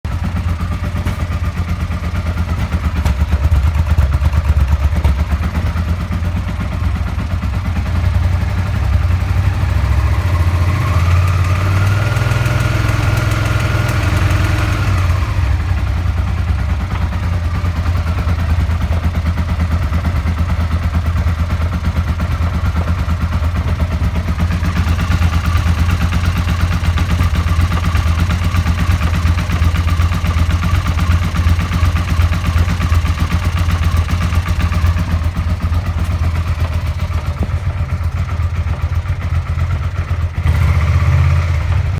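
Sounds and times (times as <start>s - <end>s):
engine knocking: 0.0s - 41.9s
motorcycle engine idling and revving: 0.0s - 41.9s.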